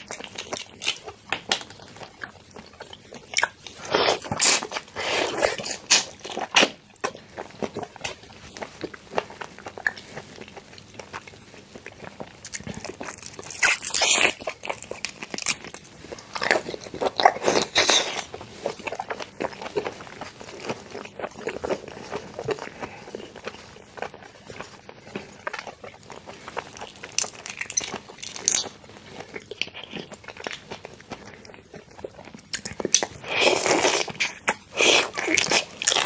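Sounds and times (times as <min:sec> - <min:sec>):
quiet chewing: 0:00.0 - 0:36.0.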